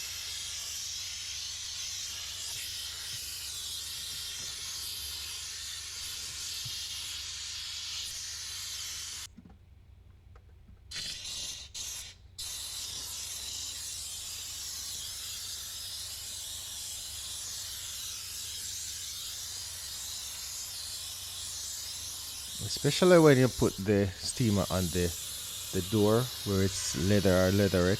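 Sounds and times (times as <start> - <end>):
steam cleaner hissing: 0.0 - 9.3, 10.9 - 27.9.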